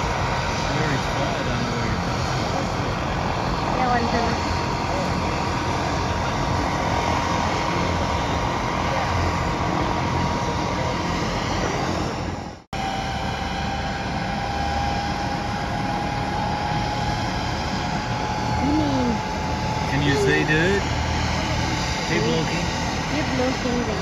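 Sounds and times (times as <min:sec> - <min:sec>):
helicopter engine whine: 0:00.0 - 0:24.0
helicopter rotor noise: 0:00.0 - 0:24.0.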